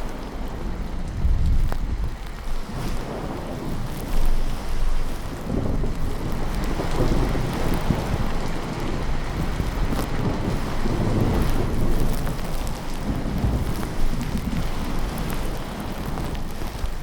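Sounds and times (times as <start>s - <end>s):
low rolling thunder: 0.0s - 17.0s
steady rain falling: 0.0s - 17.0s.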